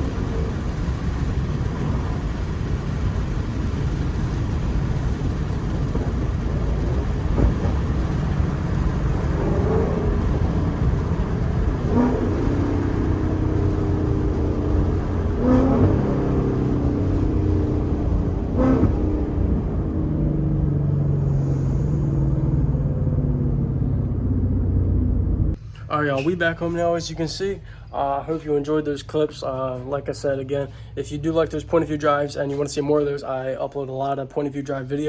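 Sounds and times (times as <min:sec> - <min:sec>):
engine blips: 0:00.0 - 0:34.0
car exhaust rumble: 0:00.0 - 0:35.0
road noise: 0:00.0 - 0:35.0.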